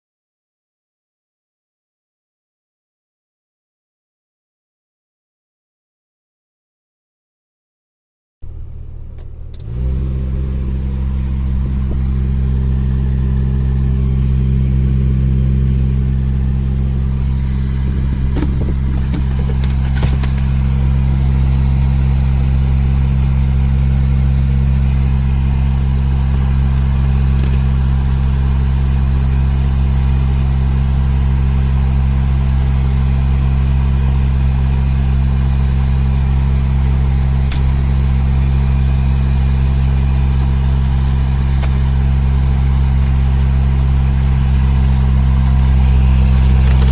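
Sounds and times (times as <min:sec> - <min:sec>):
car blower motor humming: 0:08.4 - 0:46.9.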